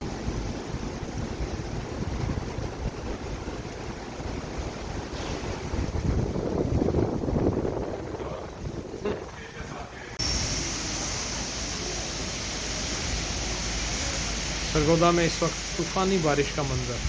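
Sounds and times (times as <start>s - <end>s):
wind gusting on microphone: 0.0s - 14.6s
heavy rain: 0.0s - 17.0s.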